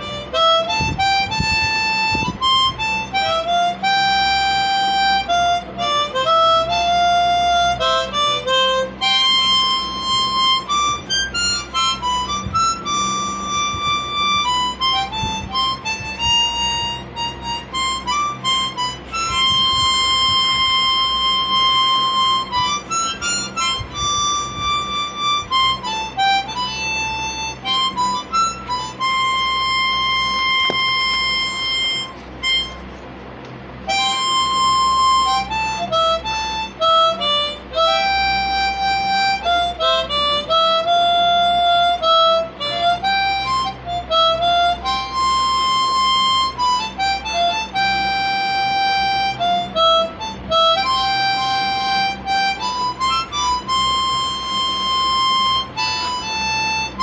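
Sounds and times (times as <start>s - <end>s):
reedy melody over drone: 0.0s - 57.0s.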